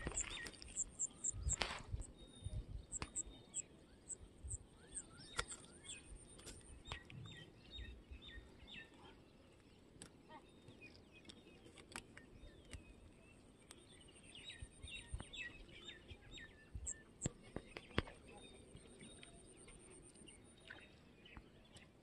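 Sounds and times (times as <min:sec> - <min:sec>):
faint bird chirps: 0:00.0 - 0:09.2, 0:12.2 - 0:21.9.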